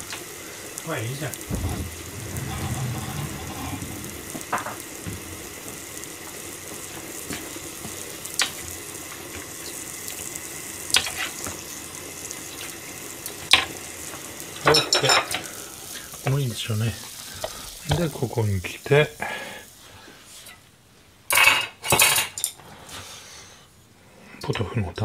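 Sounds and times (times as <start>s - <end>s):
cooking pan hissing: 0.0s - 24.3s.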